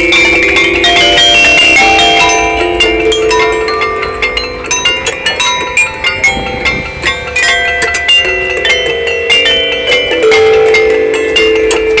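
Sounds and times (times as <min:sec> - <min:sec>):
metallophone bars struck with mallets: 0:00.0 - 0:12.0.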